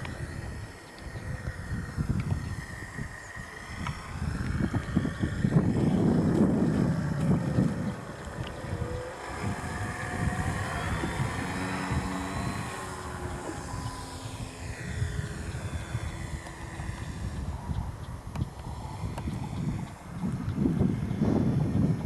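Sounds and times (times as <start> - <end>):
model plane electric motor whine: 0.0 - 22.0
wind rumble on microphone: 0.0 - 22.0.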